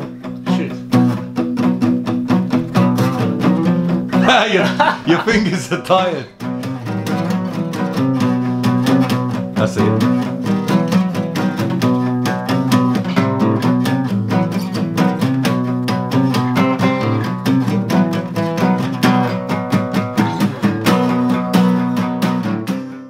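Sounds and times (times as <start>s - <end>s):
acoustic guitar strummed quickly: 0.5s - 23.0s.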